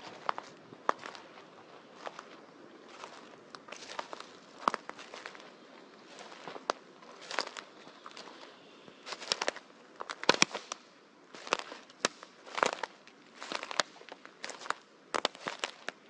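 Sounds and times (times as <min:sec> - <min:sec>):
footsteps crunching dry leaves: 0:00.0 - 0:16.0
twigs snapping underfoot: 0:00.0 - 0:16.0.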